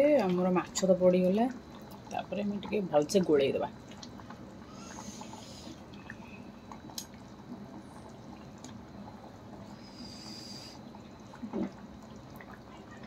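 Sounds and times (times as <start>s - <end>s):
curry simmering and bubbling: 0.0s - 13.0s.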